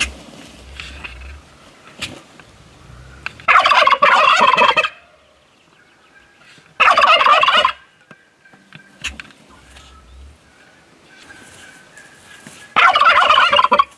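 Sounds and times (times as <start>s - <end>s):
turkey gobbling: 0.7s - 5.4s, 6.0s - 13.9s.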